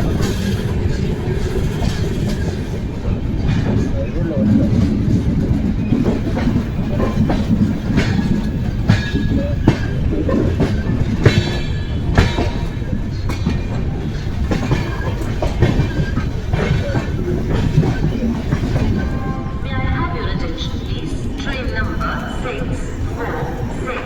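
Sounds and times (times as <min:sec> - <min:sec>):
train rumbling on track: 0:00.0 - 0:24.0
wheels clacking over rail joints: 0:00.0 - 0:24.0.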